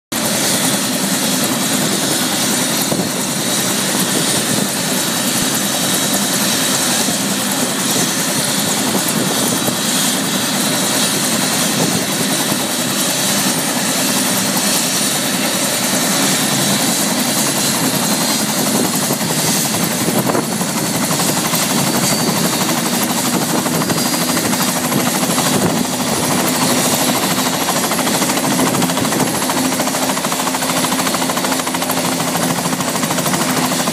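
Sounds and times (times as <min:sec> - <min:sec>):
helicopter rotor and turbine: 0:00.1 - 0:33.9.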